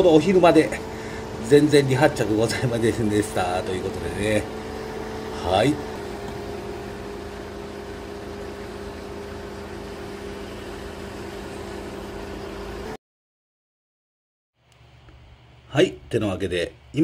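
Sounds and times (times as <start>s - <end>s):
steady mechanical hum: 0.0s - 13.0s, 14.6s - 17.0s.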